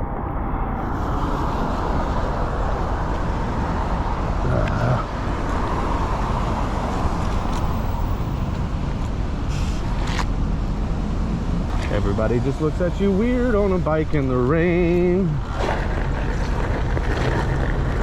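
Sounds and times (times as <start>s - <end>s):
road noise: 0.0s - 18.0s
rushing wind: 0.0s - 18.0s
vehicle traffic: 0.0s - 18.0s.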